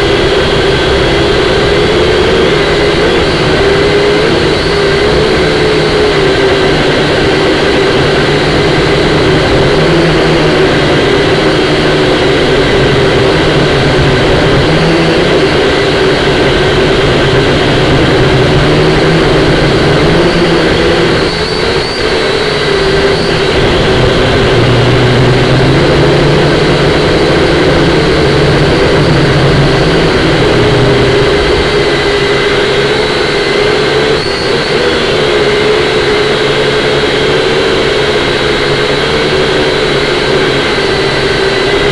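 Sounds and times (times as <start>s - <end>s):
drone propellers whining: 0.0s - 41.9s
wind noise: 0.0s - 41.9s.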